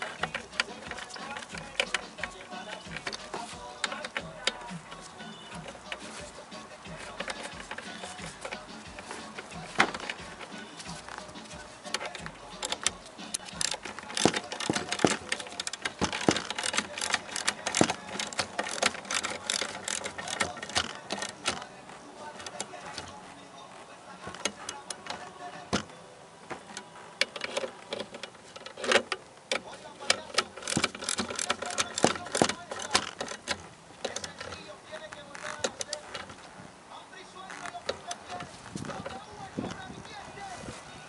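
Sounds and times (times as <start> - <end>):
hand tools clicking and knocking: 0.0 - 36.6, 37.4 - 40.2.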